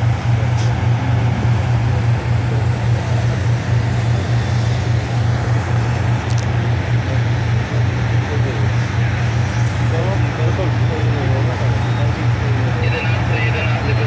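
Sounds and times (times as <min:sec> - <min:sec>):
drone motors humming: 0:00.0 - 0:14.0
rushing noise: 0:00.0 - 0:14.0.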